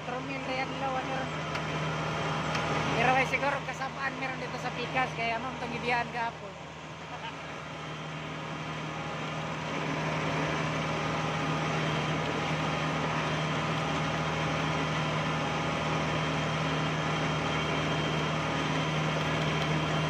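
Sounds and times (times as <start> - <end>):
harvester engine droning: 0.0 - 20.0
mechanical hum: 0.0 - 20.0.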